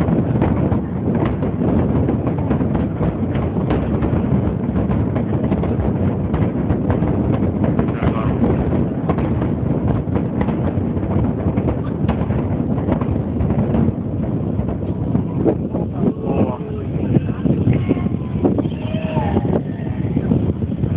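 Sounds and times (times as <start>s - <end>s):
fireworks crackling and popping: 0.0s - 20.9s
steady low noise: 0.0s - 20.9s.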